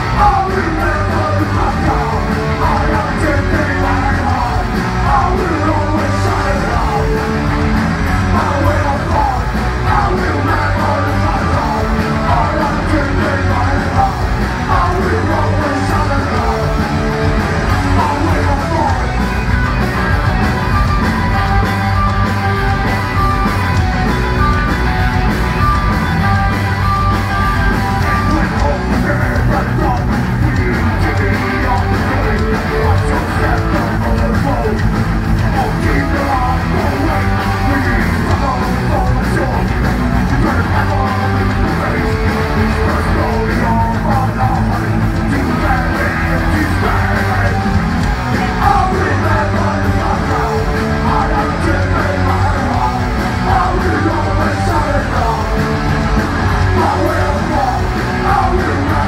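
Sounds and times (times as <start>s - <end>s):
person singing: 0.0s - 19.8s, 27.3s - 59.0s
bass guitar: 0.0s - 59.0s
drums: 0.0s - 59.0s
electric guitars: 0.0s - 59.0s.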